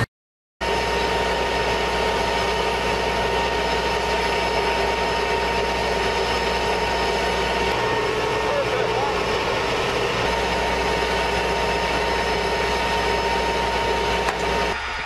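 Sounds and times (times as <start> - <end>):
turbine engine whine and rumble: 0.0 - 15.0.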